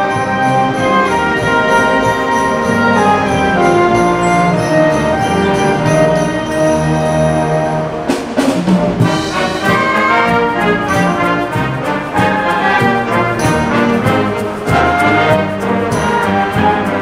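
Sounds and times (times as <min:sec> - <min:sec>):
concert band playing: 0:00.0 - 0:17.0.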